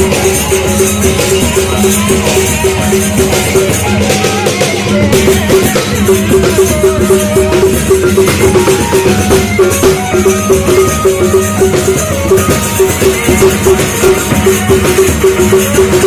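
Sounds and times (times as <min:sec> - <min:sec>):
loud band music: 0:00.0 - 0:16.0
rattling percussion: 0:00.0 - 0:16.0.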